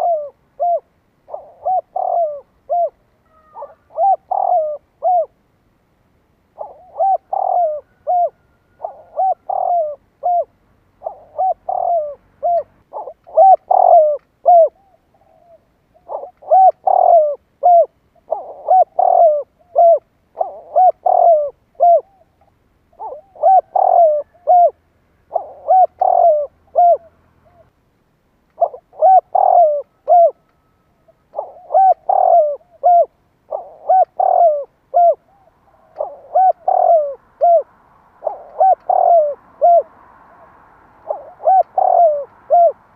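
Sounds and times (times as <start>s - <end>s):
dove cooing: 0.0s - 5.4s, 6.5s - 27.8s, 28.6s - 42.9s.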